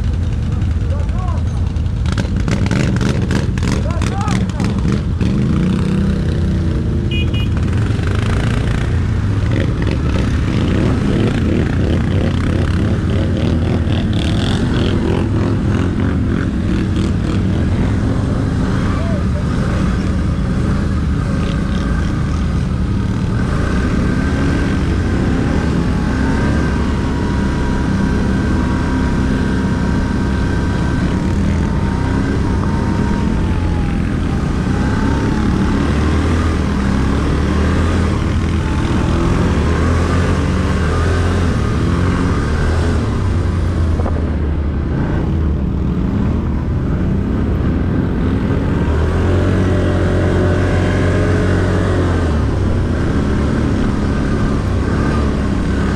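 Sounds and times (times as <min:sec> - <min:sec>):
quad bike engine revving: 0:00.0 - 0:55.9.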